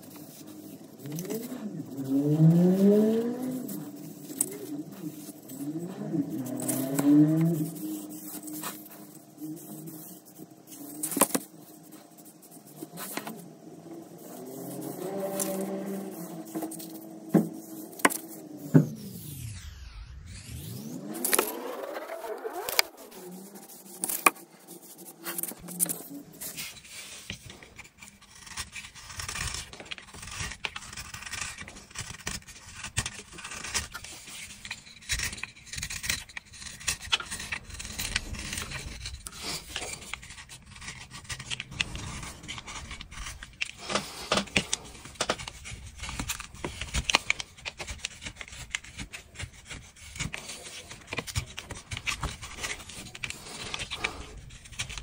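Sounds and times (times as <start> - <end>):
abrasive tool scraping wood: 0.0 - 19.7, 20.6 - 55.0.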